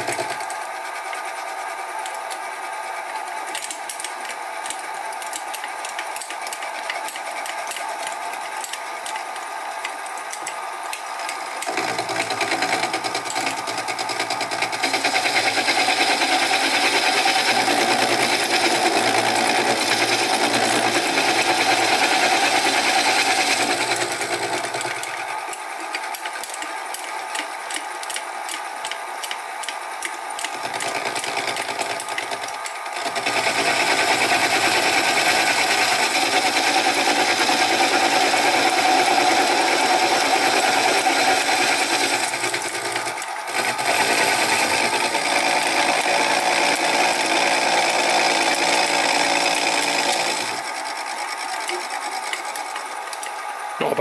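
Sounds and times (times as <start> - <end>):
milling machine motor whine: 0.0 - 54.0.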